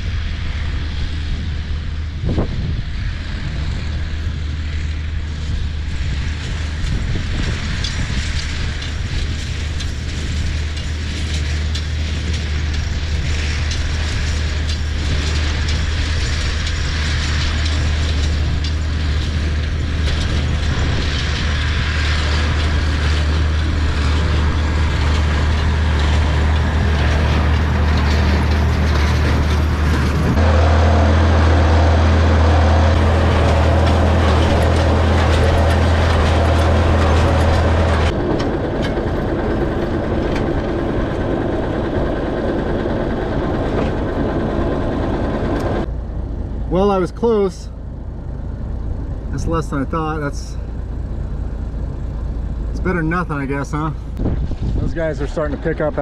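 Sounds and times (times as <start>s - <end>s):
tractor engine running: 0.0s - 56.0s
baler mechanical clatter: 3.6s - 56.0s.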